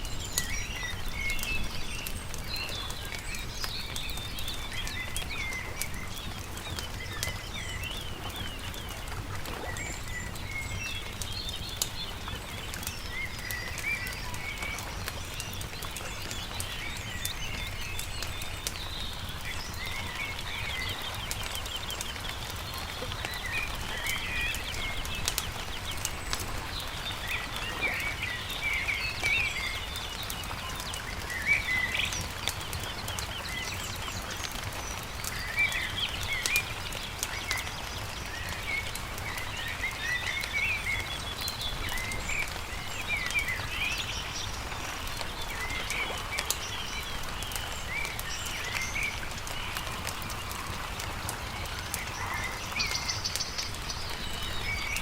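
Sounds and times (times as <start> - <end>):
campfire crackling: 0.0 - 55.0
songbirds chirping: 0.0 - 55.0.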